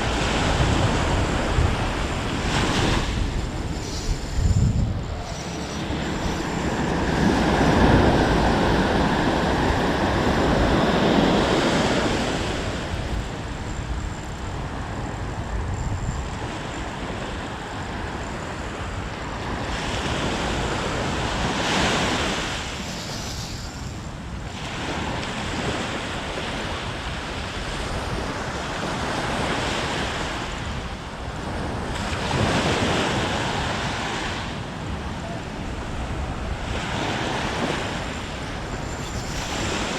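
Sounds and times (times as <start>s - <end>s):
wind on the microphone: 0.0s - 39.9s.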